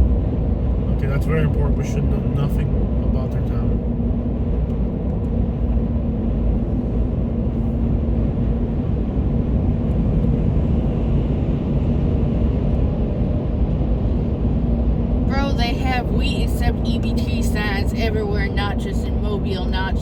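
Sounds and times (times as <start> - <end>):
car cabin road noise: 0.0 - 20.0.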